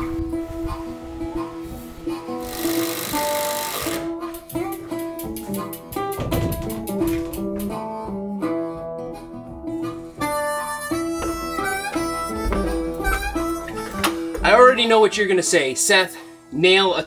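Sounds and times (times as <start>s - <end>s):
guitar tune with even beat: 0.0s - 15.7s.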